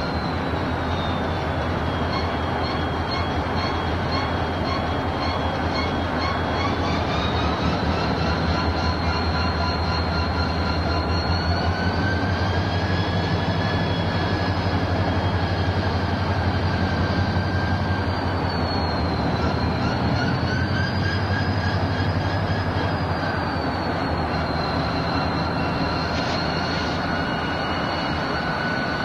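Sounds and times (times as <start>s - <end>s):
locomotive engine hum: 0.0s - 29.0s
steel wheels squealing on rail: 0.0s - 29.0s.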